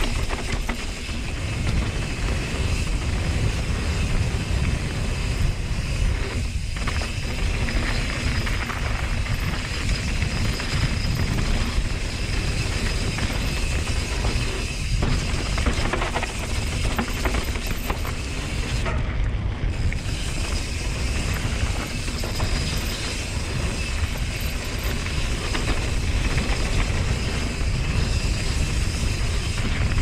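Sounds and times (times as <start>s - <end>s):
bike rattling over bumps: 0.0s - 30.0s
wind buffeting microphone: 0.0s - 30.0s.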